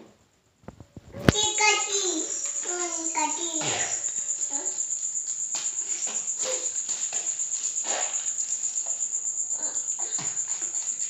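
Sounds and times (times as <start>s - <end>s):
cricket trilling: 0.0s - 11.0s
faint room sounds: 0.0s - 11.0s.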